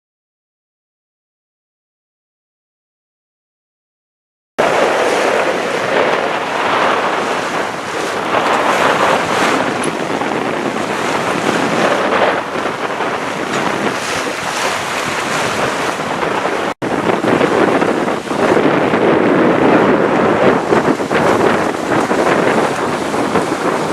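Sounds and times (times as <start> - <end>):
sea water rushing: 4.6 - 23.9
wind buffeting microphone: 4.6 - 23.9.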